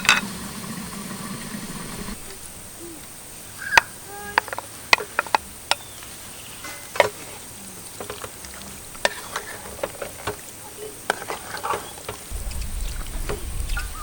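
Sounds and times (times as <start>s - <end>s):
campfire crackling and popping: 0.0s - 14.0s
insect trill: 0.0s - 14.0s.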